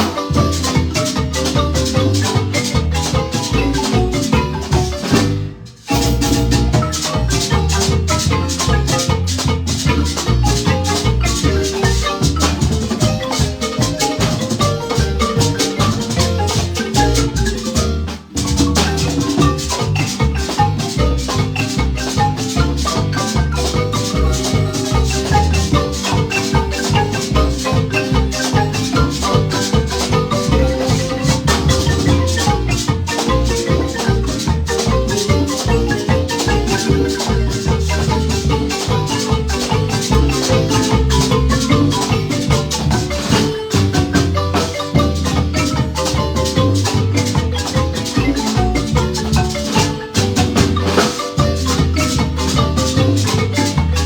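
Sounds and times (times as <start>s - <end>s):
marimba band playing lively tune: 0.0s - 54.0s.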